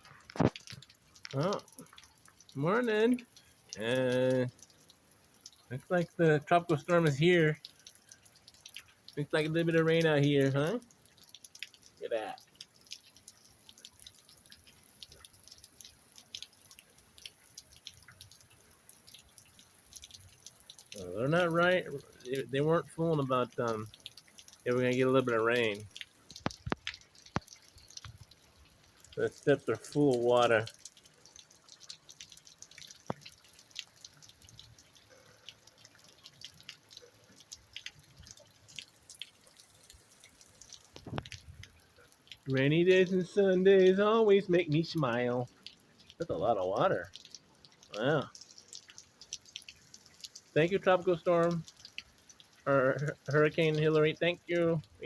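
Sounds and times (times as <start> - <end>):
raindrops pattering: 0.0 - 55.0
steady hiss of rainfall: 0.0 - 55.0
water drops splashing: 0.0 - 55.0.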